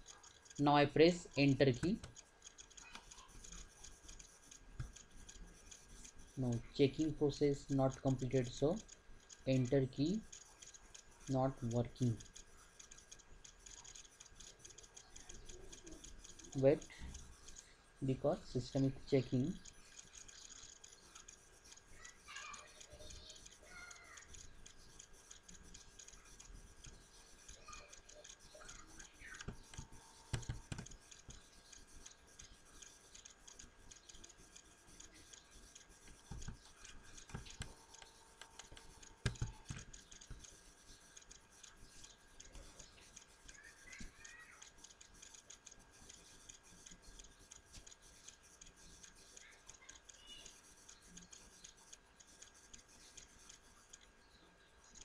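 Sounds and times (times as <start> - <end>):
soft clicks: 0.0 - 55.0.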